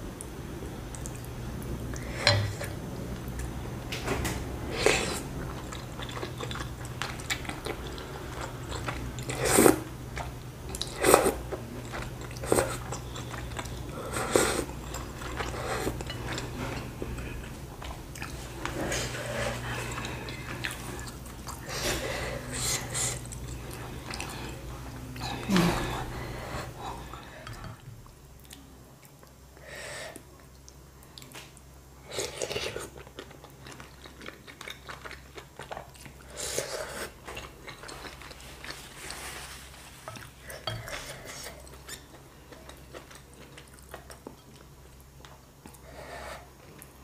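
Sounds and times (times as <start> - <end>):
chewing noises: 4.8 - 29.4, 30.2 - 47.0.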